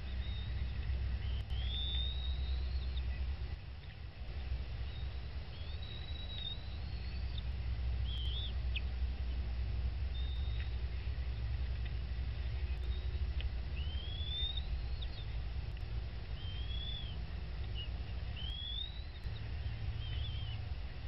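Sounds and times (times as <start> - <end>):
high bird calls: 0.0 - 4.0, 4.7 - 21.0
steady low rumble: 0.0 - 21.0.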